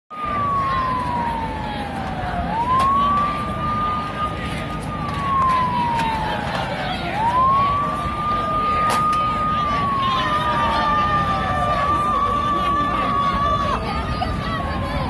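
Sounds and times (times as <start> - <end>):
large crowd noise: 0.1 - 15.0
siren wailing: 0.1 - 15.0.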